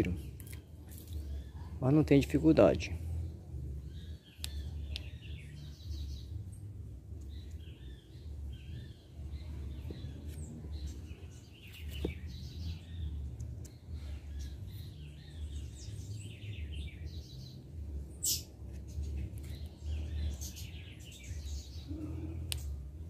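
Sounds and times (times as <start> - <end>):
low steady rumble: 0.0 - 23.0
small birds chirping: 0.0 - 23.0.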